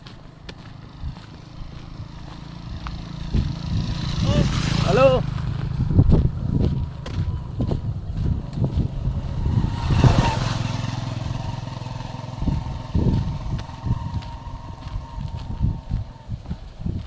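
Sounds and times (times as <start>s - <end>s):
motorcycle engine passing by: 0.0s - 17.0s.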